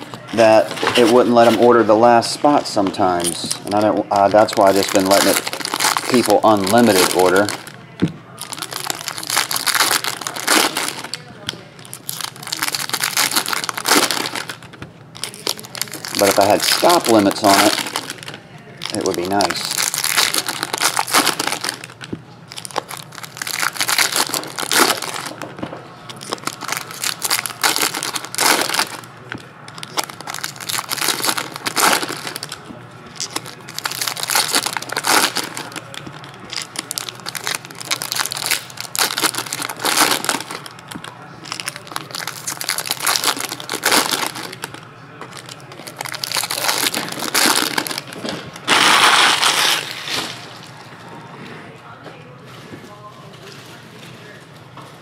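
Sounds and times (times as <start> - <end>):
foil wrappers crinkling: 0.0 - 50.9.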